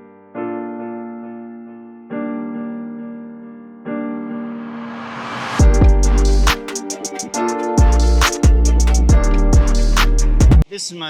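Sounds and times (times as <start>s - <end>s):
electric piano chords: 0.0s - 10.6s.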